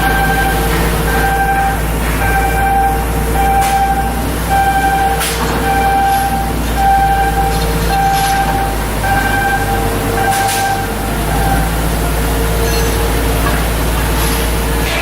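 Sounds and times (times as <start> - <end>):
electronic warning beep: 0.0 - 15.0
low machinery hum: 0.0 - 15.0.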